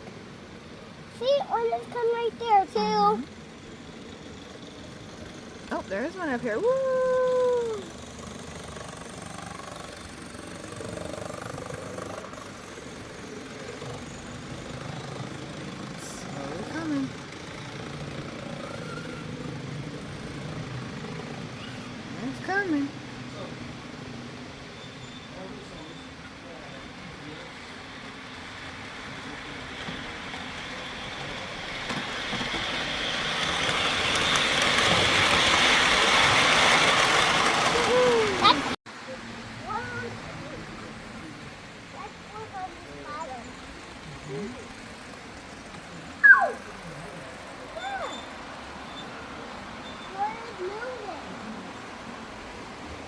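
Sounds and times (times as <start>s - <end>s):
model train rumble and whir: 0.0s - 53.0s.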